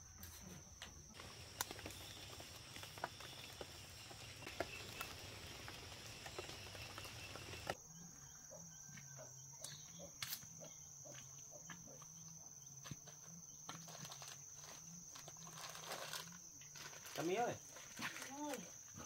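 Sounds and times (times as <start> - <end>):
high-pitched insect trill: 0.0 - 19.0.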